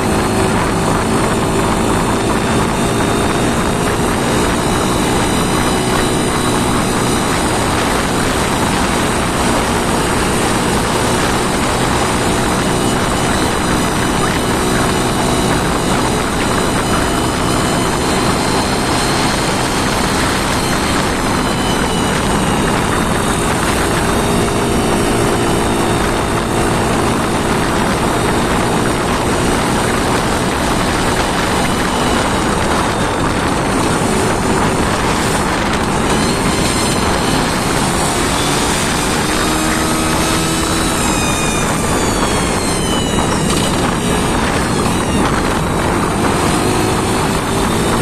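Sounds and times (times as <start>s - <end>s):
engine running at high speed: 0.0s - 48.0s
thin high whine: 0.0s - 48.0s.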